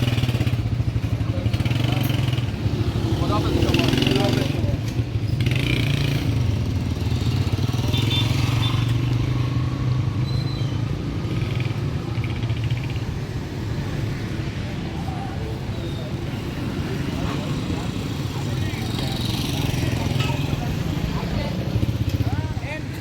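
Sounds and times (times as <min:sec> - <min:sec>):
faint street voices: 0:00.0 - 0:23.0.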